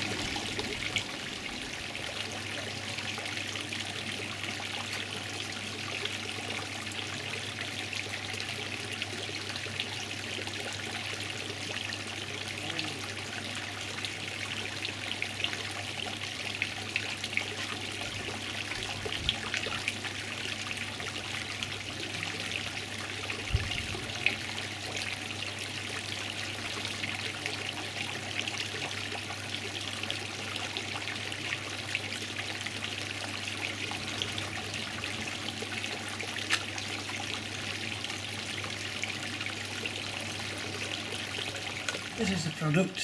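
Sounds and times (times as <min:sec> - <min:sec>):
running water trickling: 0:00.0 - 0:43.0.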